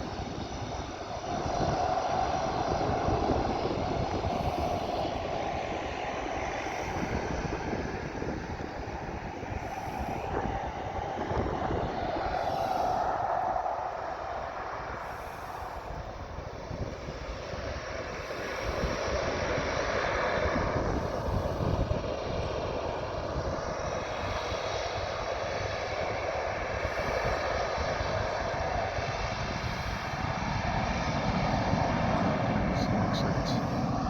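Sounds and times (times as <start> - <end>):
aircraft engines running: 0.0 - 34.0
wind buffeting microphone: 0.0 - 34.0.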